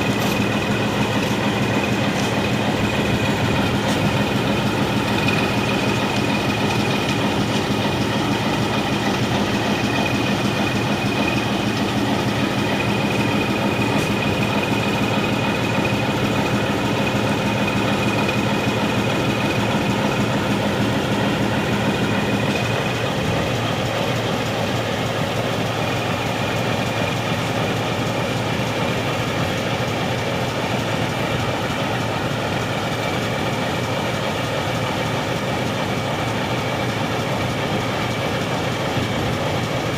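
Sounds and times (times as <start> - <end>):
diesel locomotive engine idling: 0.0 - 39.9.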